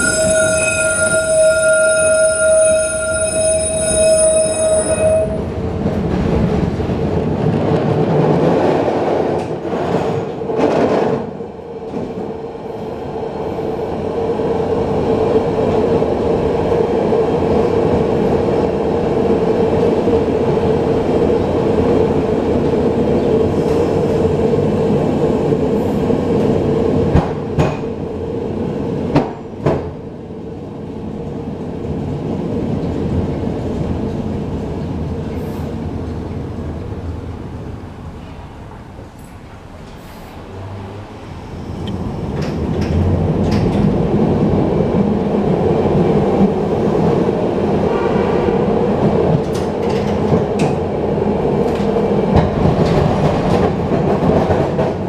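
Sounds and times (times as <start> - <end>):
streetcar rumbling on rails: 0.0 - 55.0.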